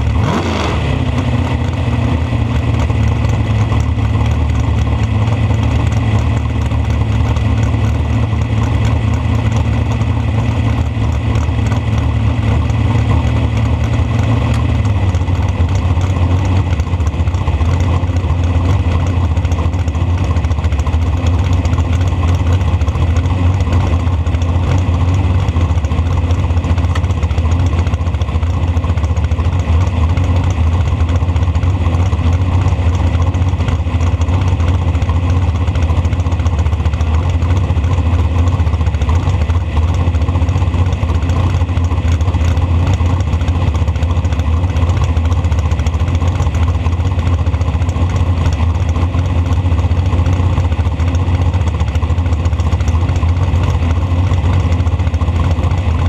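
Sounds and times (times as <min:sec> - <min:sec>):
dragster engine idling: 0:00.0 - 0:56.0.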